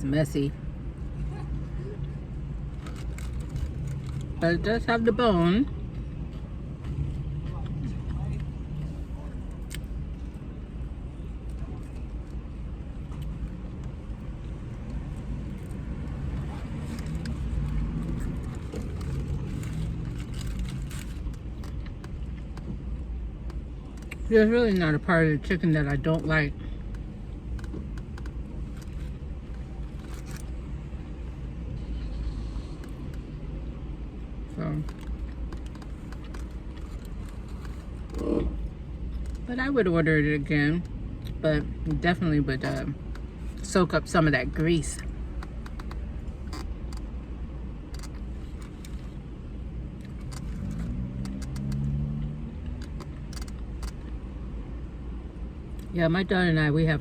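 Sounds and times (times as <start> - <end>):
low rumble inside parked car: 0.0 - 57.0.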